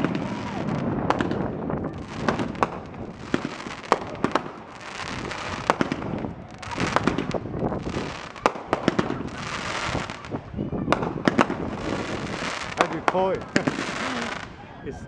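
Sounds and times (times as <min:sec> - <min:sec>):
fireworks hissing crackle: 0:00.0 - 0:14.7
fireworks bangs: 0:00.0 - 0:15.0.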